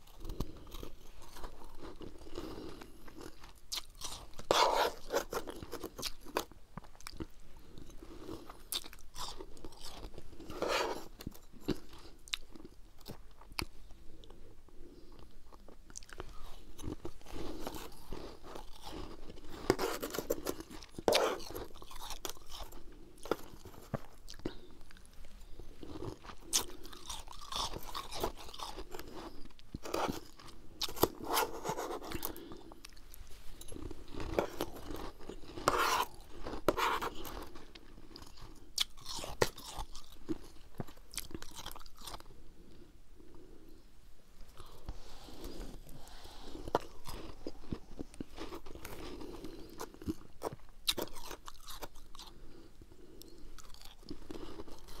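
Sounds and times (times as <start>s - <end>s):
chewing crunchy frost: 0.0s - 42.4s, 44.5s - 55.0s.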